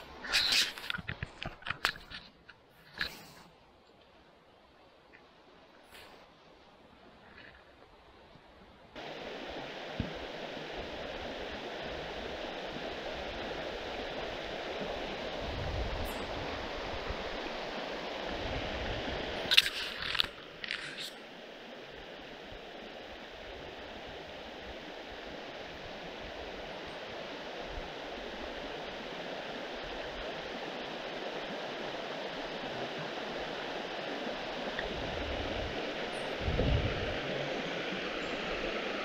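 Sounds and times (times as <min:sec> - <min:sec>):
river water running: 0:00.0 - 0:39.0.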